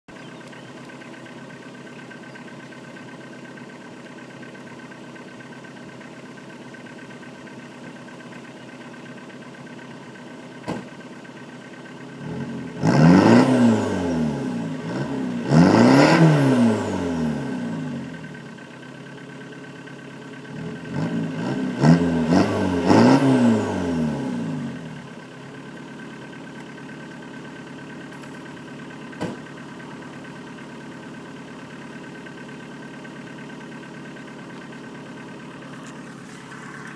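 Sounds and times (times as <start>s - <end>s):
diesel engine idling and revving: 0.1s - 36.9s.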